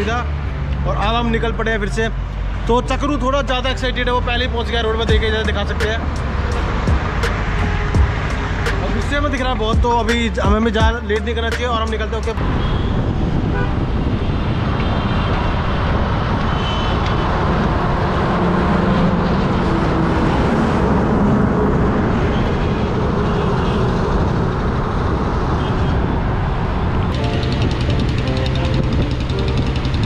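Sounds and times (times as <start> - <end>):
highway traffic rushing: 0.0 - 30.0.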